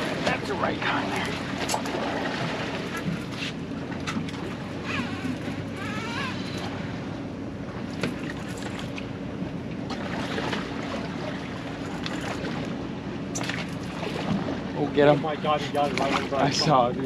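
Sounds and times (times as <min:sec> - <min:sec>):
boat engine humming: 0:00.0 - 0:17.0
water noise: 0:00.0 - 0:17.0
wind: 0:00.0 - 0:17.0.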